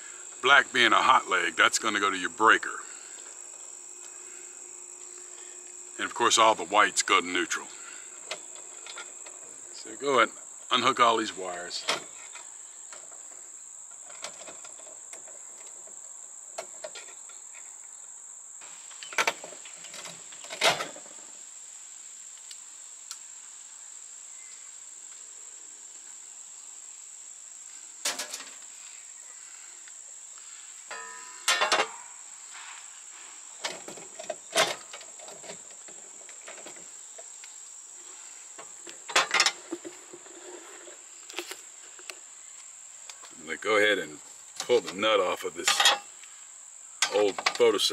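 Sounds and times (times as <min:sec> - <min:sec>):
insect chirring: 0:00.0 - 0:47.9.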